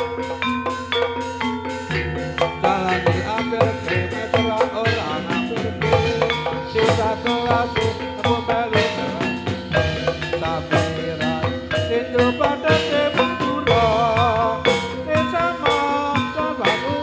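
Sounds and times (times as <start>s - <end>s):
mallet-struck tuned percussion: 0.0s - 17.0s
steady drum rhythm: 0.0s - 17.0s.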